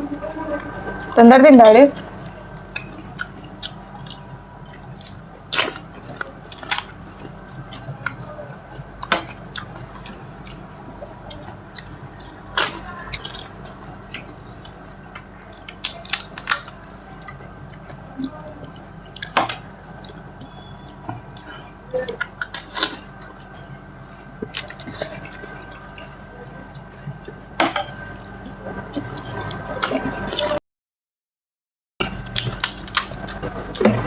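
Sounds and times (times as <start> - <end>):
low hum: 0.0 - 30.6
person chewing crunchy food: 2.0 - 30.6, 32.0 - 34.0.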